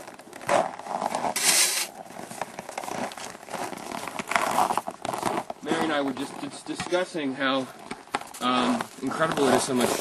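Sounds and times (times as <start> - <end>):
crunching and scraping in snow: 0.0 - 10.0.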